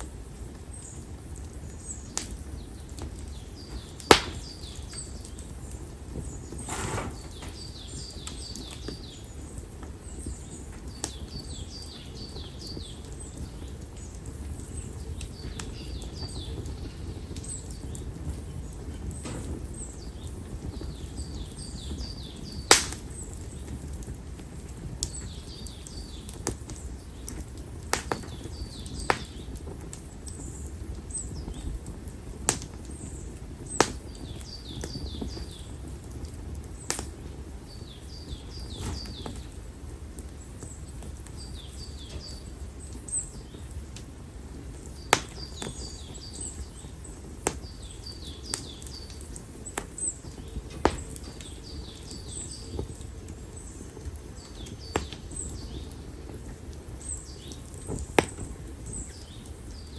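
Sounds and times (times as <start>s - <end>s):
firewood crackling and popping: 0.0s - 59.9s
low rumble of flames: 0.0s - 59.9s
small birds chirping: 0.0s - 59.9s.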